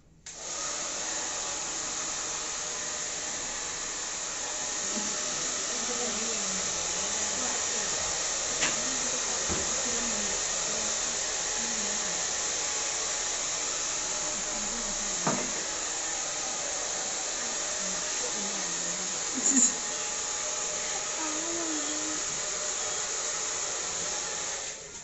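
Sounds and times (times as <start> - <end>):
hair dryer blowing: 0.3 - 25.0.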